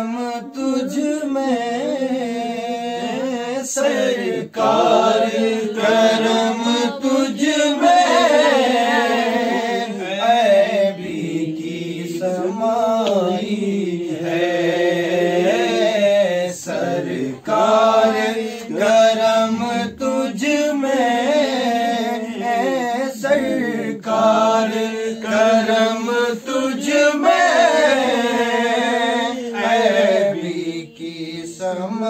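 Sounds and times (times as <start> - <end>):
man singing: 0.0 - 32.0.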